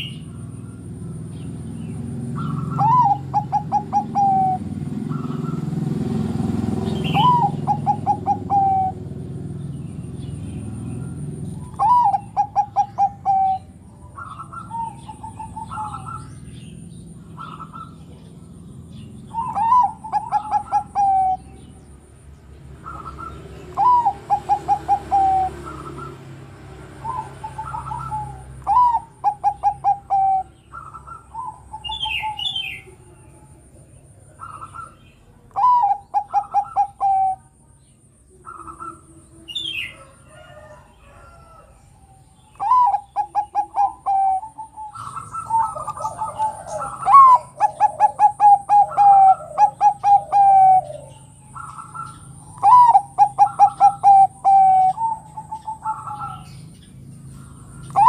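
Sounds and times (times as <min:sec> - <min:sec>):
dove cooing: 0:00.0 - 0:22.0, 0:22.8 - 0:37.6, 0:38.3 - 0:58.0.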